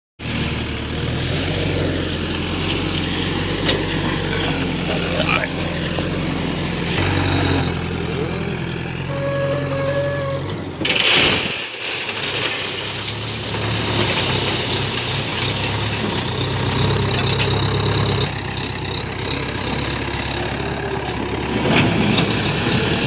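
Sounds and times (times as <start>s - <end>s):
heavy diesel engine running: 0.2s - 23.0s.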